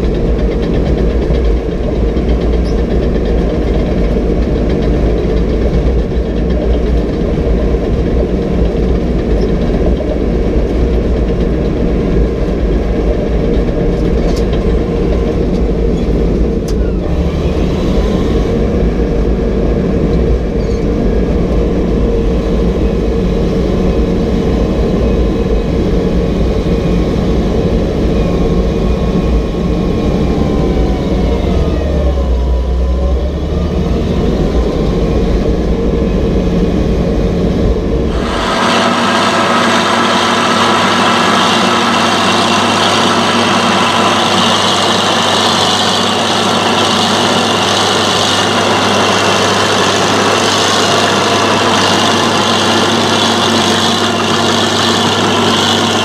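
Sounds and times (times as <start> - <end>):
diesel engine running hard: 0.0 - 56.0.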